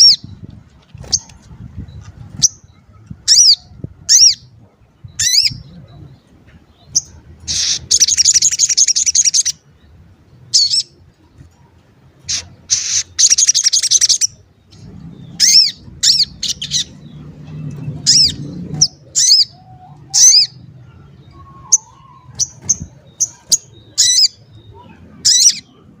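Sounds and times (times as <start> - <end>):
bird high chirps: 0.0 - 9.6, 10.5 - 11.5, 12.2 - 26.0.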